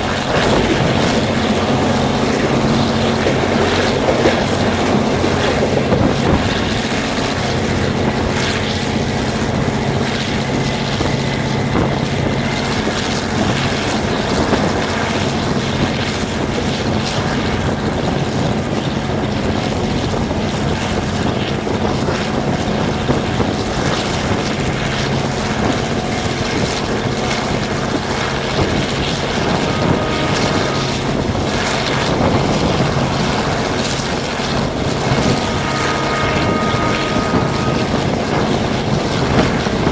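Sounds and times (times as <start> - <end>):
diesel locomotive engine droning: 0.0 - 39.9.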